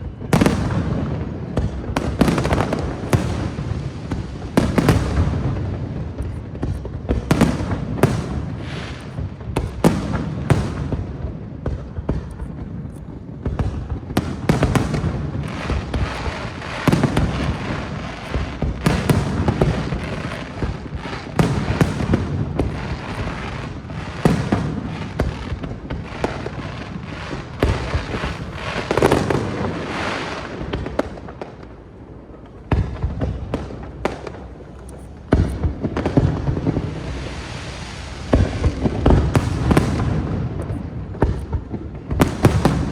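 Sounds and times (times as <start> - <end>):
fireworks bangs: 0.0 - 42.9
fireworks crackle: 0.0 - 42.9.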